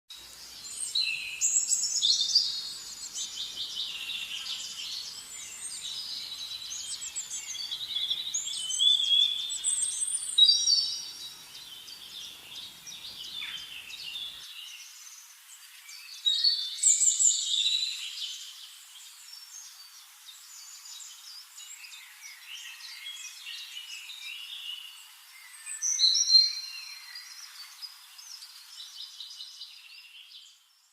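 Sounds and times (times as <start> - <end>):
birdsong chirps and warbling: 0.1 - 30.9.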